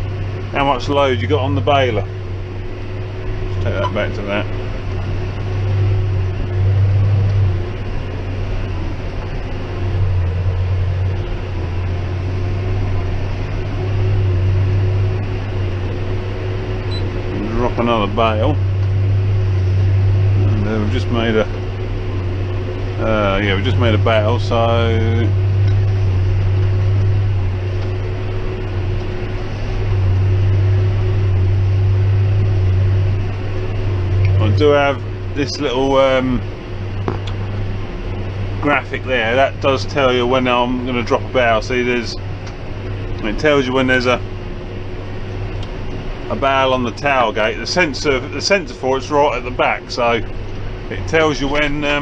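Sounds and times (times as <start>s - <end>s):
constant hum: 0.0s - 52.0s
tractor diesel engine under load: 0.0s - 52.0s.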